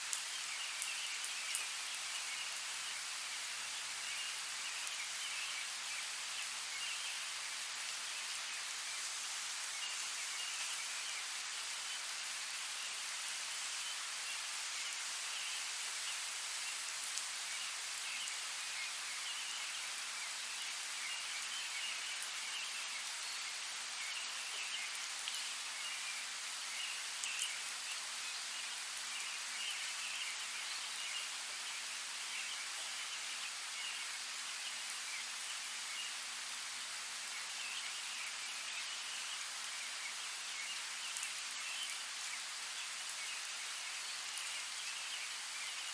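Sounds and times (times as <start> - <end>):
rain falling in a forest: 0.0 - 45.9.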